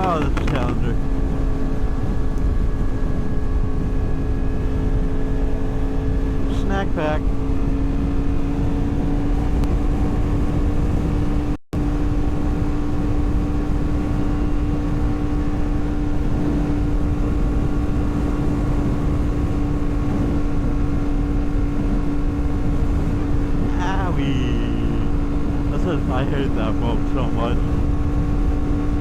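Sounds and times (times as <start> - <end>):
wind rumble: 0.0 - 6.6, 7.2 - 29.0
motorcycle engine cruising: 0.0 - 29.0.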